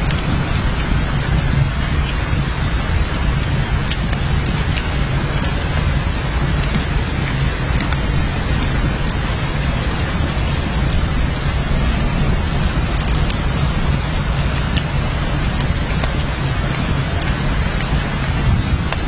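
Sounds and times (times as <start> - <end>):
heavy rain: 0.0 - 19.0
raindrops ticking: 0.0 - 19.0.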